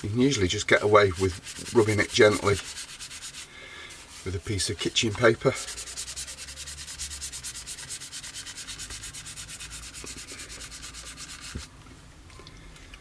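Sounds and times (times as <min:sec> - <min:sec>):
paper rubbing on plastic: 0:00.0 - 0:11.7.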